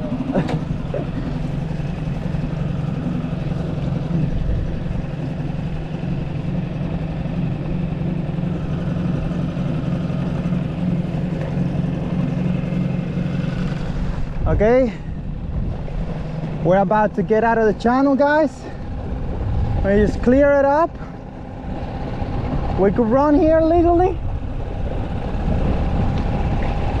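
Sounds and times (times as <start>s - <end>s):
outboard motor running: 0.0s - 27.0s.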